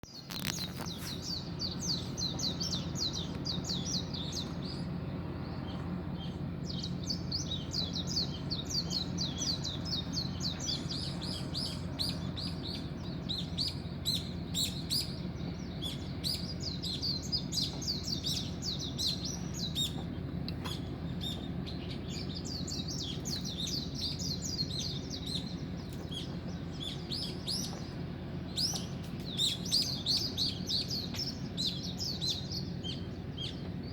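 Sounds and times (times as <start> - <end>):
small birds chirping: 0.0 - 33.9
steady low hum: 0.1 - 33.9.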